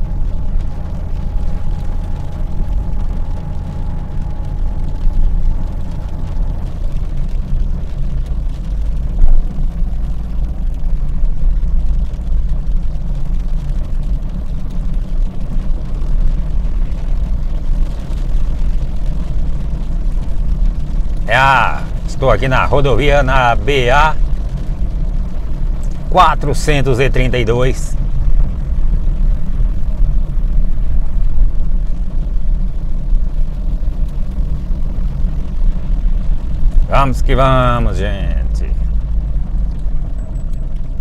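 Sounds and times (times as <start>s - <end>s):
car cabin rumble: 0.0s - 41.0s
faint steady whine: 0.0s - 41.0s.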